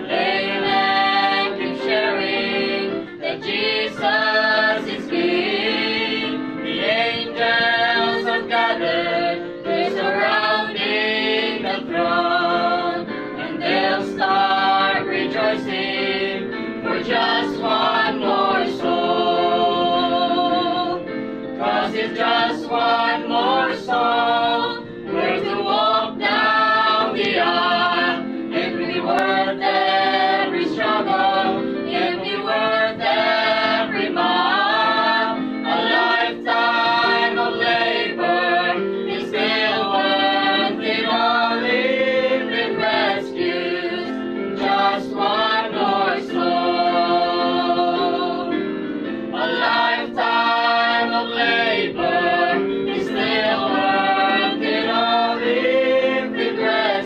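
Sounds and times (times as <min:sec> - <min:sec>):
men's vocal group singing in harmony: 0:00.0 - 0:48.7, 0:49.3 - 0:57.0.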